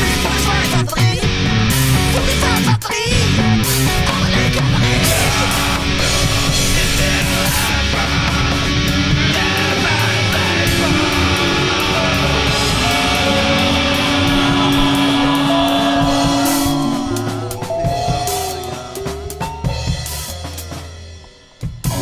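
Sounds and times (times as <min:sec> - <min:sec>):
punk rock music: 0:00.0 - 0:22.0.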